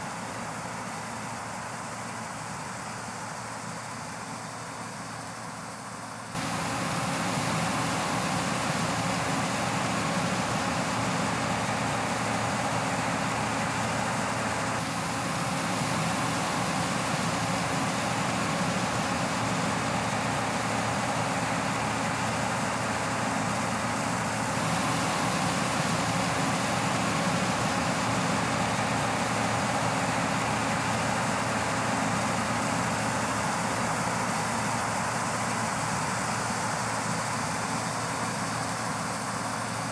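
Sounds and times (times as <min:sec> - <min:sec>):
combine harvester droning: 0:06.4 - 0:39.9.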